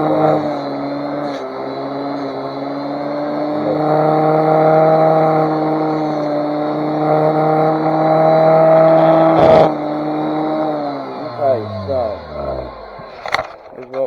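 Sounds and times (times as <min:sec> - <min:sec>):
power tool grinding metal: 0:00.0 - 0:13.8.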